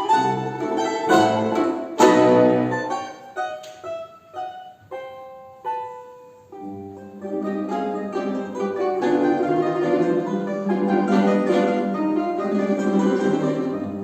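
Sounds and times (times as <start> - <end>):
instrumental piano and plucked music: 0.0 - 14.0.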